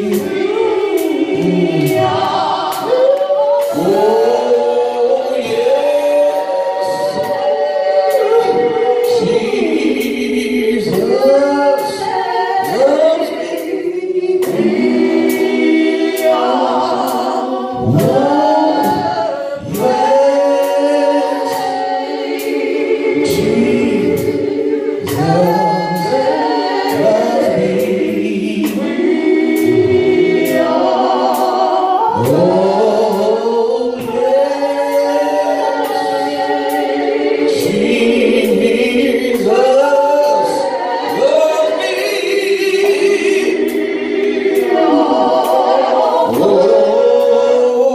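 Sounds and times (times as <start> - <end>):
steady beat of sharp strikes: 0.0 - 47.5
gospel choir singing: 0.0 - 47.9.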